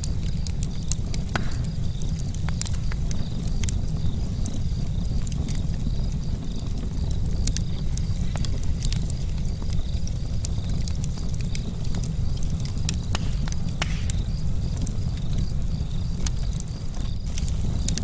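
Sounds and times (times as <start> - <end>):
charcoal fire crackling: 0.0 - 18.0.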